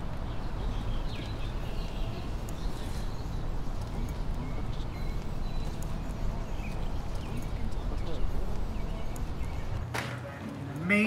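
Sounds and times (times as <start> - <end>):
footsteps on garden path: 0.0 - 10.9.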